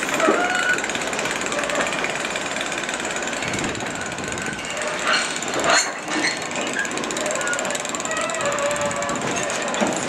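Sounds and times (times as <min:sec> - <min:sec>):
diesel engine clattering: 0:00.0 - 0:10.0.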